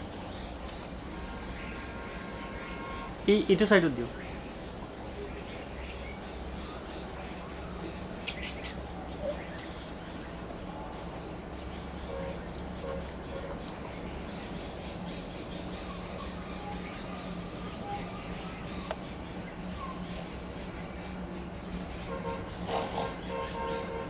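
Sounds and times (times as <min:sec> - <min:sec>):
high-pitched insect drone: 0:00.0 - 0:24.0
low background hum: 0:00.0 - 0:24.0.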